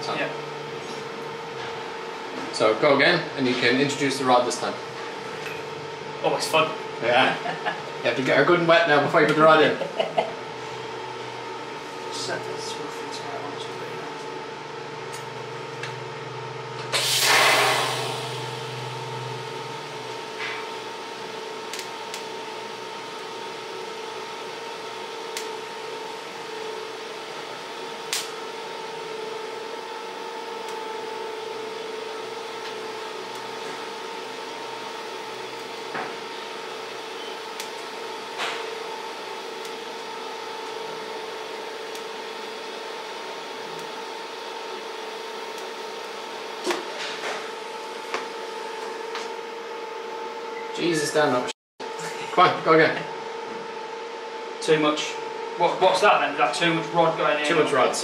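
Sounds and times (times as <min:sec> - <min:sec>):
welding arc hum and hiss: 0:00.0 - 0:58.0.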